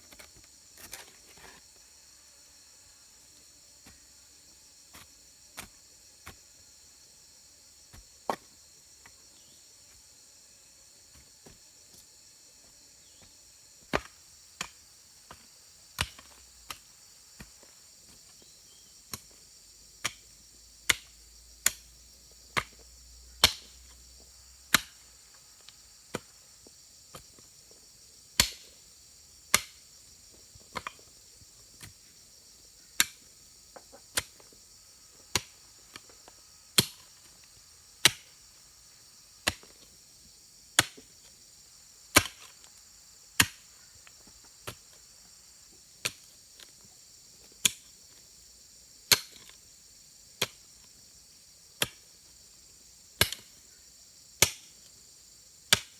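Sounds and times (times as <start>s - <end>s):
insects buzzing: 0.0s - 55.9s.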